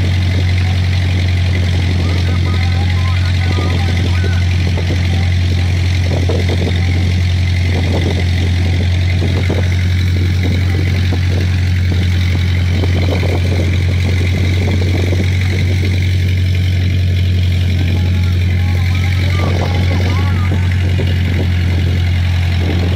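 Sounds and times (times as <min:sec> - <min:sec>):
boat engine droning: 0:00.0 - 0:22.9.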